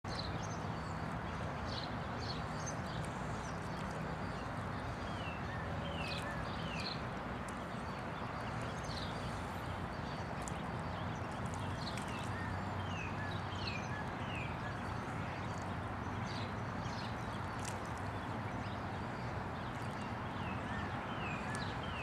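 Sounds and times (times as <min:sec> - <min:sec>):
small birds chirping: 0:00.1 - 0:22.0.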